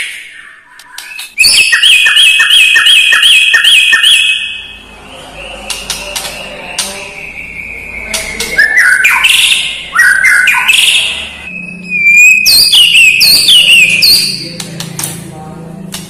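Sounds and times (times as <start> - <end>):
songbird whistling song: 0.0 - 14.6.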